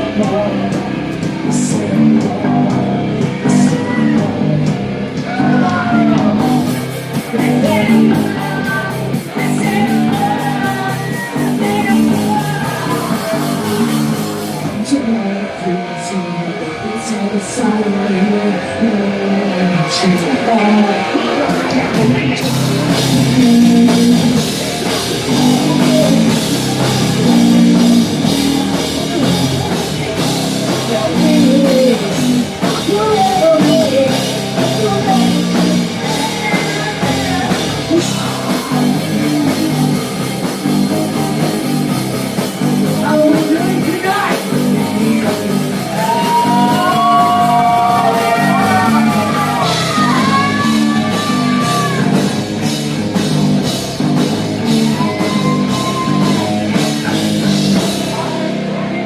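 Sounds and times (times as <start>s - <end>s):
drum kit: 0.0s - 15.4s, 19.8s - 59.0s
person singing: 0.0s - 40.1s, 42.8s - 52.4s, 54.6s - 59.0s
electric guitars: 0.0s - 59.0s.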